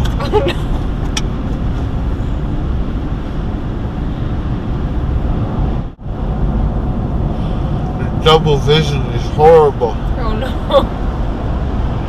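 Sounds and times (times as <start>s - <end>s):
road and engine drone in truck cabin: 0.0s - 12.0s.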